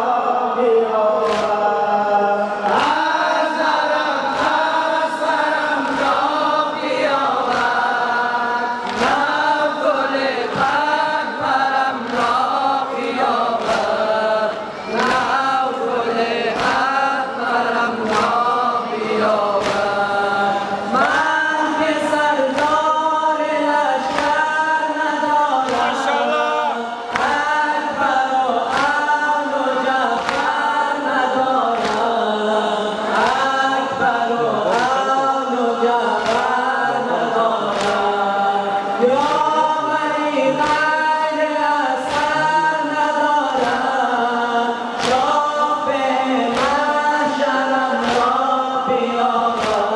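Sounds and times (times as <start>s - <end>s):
men singing a lament together: 0.0s - 49.9s.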